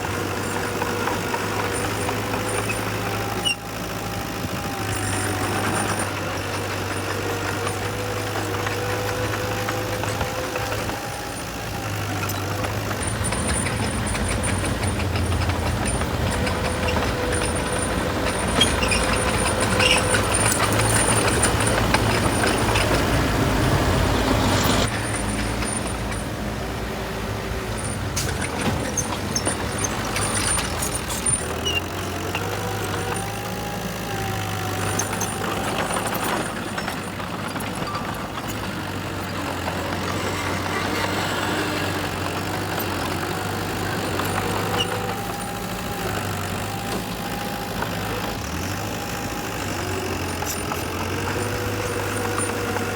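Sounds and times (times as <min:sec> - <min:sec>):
heavy machinery diesel engines droning: 0:00.0 - 0:52.9.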